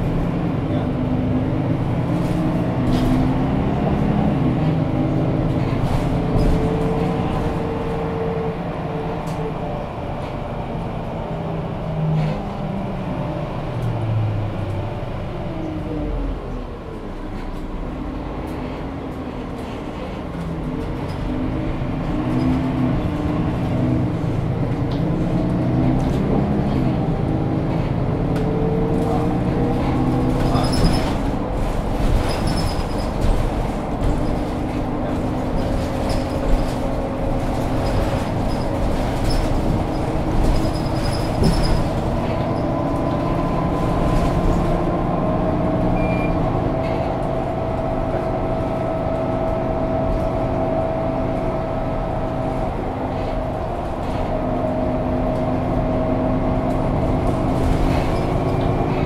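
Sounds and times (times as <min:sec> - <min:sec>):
bus diesel engine idling: 0:00.0 - 0:59.0.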